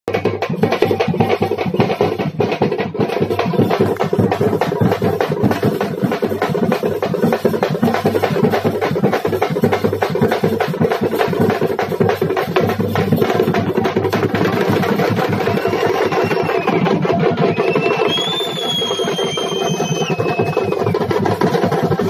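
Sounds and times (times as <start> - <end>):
fast festival drumming: 0.1 - 22.0.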